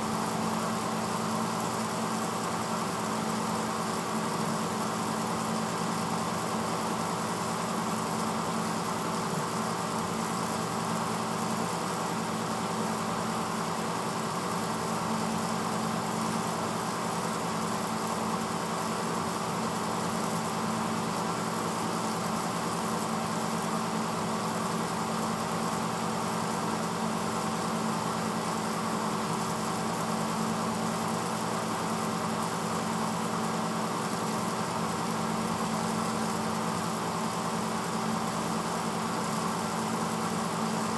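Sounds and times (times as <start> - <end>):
dishwasher pump motor hum: 0.0 - 40.9.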